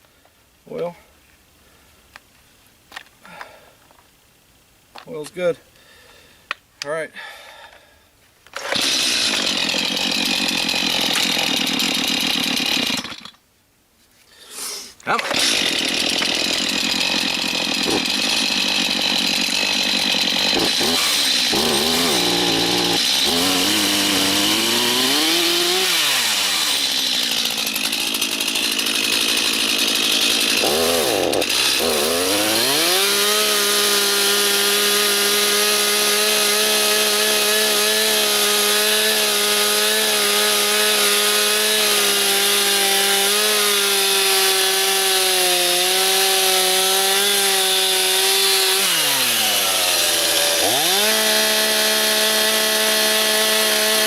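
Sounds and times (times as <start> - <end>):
chainsaw revving while cutting: 8.6 - 13.3, 15.2 - 54.0.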